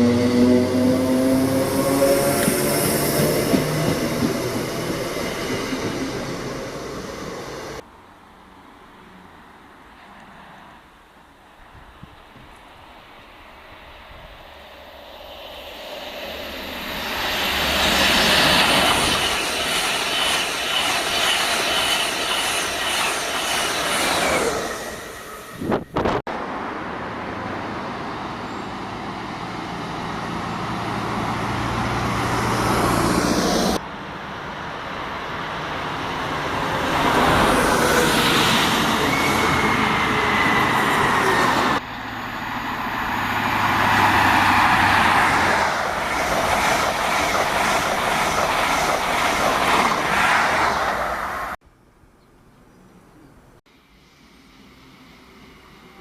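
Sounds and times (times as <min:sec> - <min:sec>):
trains running past: 0:00.0 - 0:09.2, 0:11.7 - 0:51.6, 0:53.7 - 0:56.0.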